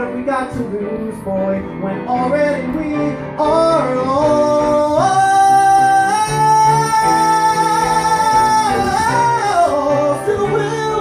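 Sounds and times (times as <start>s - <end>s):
instrumental accompaniment: 0.0s - 11.0s.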